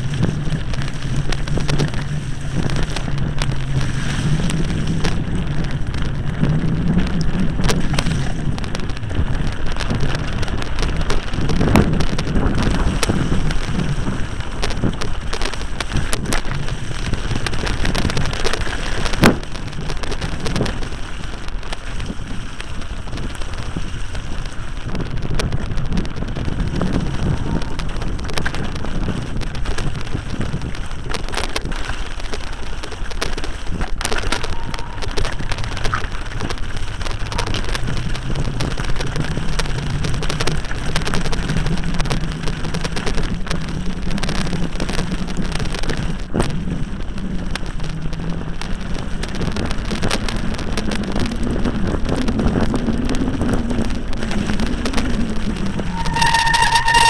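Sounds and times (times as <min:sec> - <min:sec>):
bike knocking over stones: 0:00.0 - 0:46.8
mountain bike rattling: 0:00.0 - 0:57.0
tyres crunching over rocks: 0:00.0 - 0:57.0
wind buffeting microphone: 0:00.0 - 0:57.0.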